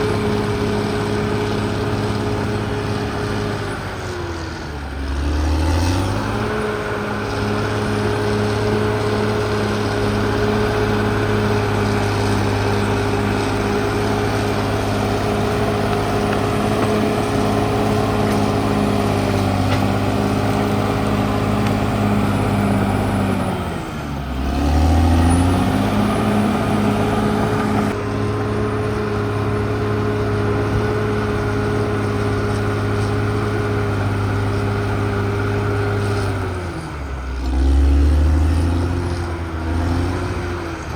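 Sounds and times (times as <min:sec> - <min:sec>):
bulldozer diesel engine revving: 0:00.0 - 0:40.9.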